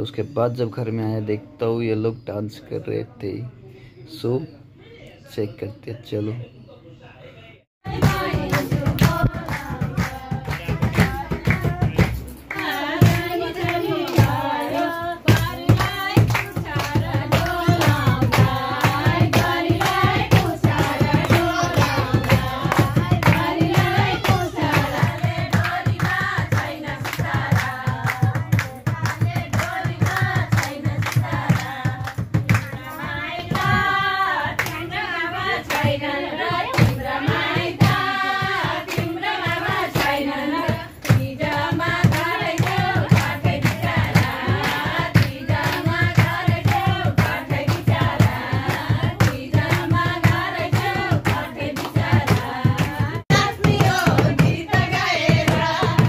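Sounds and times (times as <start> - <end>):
women singing together: 7.8 - 56.0
people clapping in time: 7.9 - 35.0, 35.6 - 56.0.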